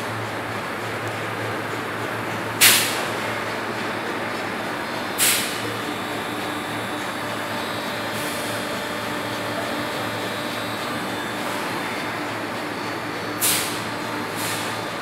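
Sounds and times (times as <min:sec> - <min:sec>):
hydraulic pump motor hum: 0:00.0 - 0:15.0.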